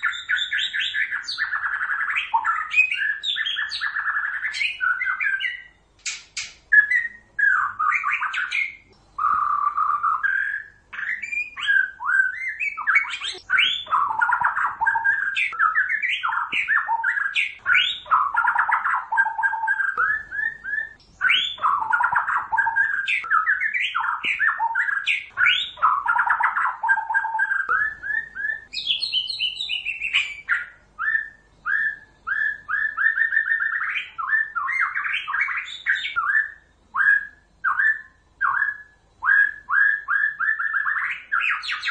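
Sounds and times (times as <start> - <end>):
bird singing whistled phrases: 0.0 - 41.9.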